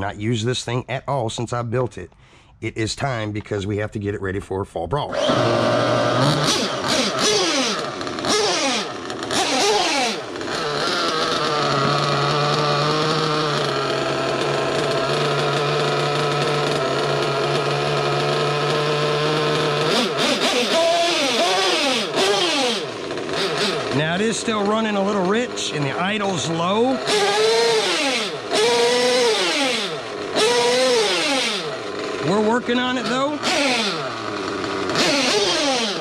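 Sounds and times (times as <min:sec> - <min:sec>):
model nitro engine revving and idling: 0:05.0 - 0:36.0.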